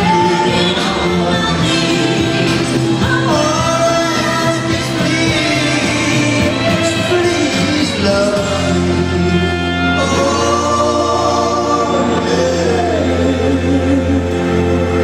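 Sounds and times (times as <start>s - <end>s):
electric guitar: 0.0s - 15.0s
person singing long notes: 0.0s - 15.0s
steady bass: 0.0s - 15.0s.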